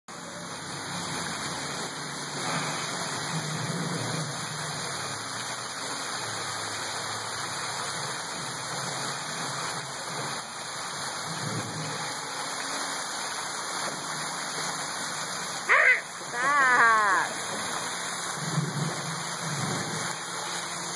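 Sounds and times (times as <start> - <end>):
waterfall pouring and splashing: 0.1 - 20.9.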